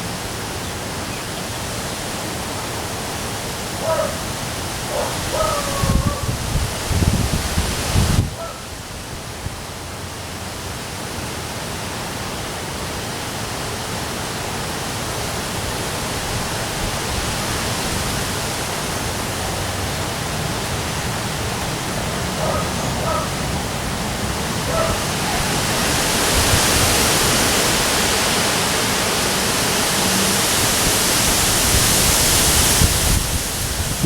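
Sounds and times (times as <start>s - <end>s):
heavy rain: 0.0s - 34.0s
wind: 0.0s - 34.0s.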